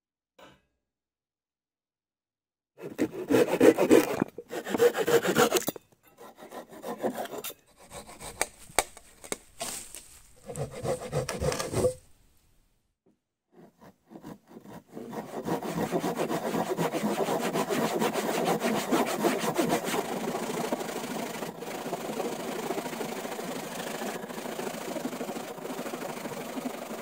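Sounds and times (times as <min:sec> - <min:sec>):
hand saws cutting logs: 0:02.8 - 0:12.0, 0:13.5 - 0:27.0.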